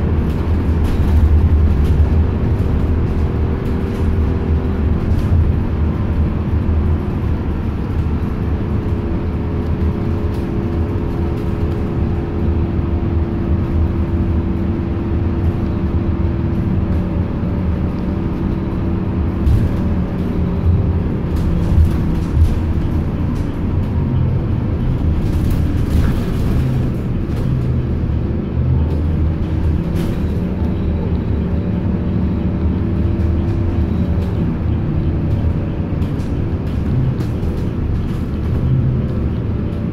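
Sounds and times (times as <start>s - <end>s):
bus engine and road rumble: 0.0s - 39.9s
humming drivetrain: 0.0s - 39.9s.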